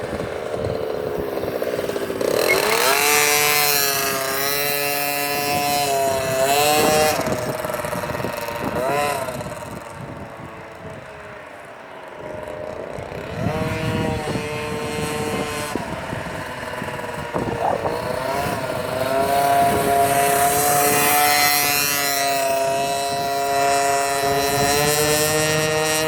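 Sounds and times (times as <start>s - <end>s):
minibike engine revving: 0.0s - 11.0s, 12.1s - 26.0s.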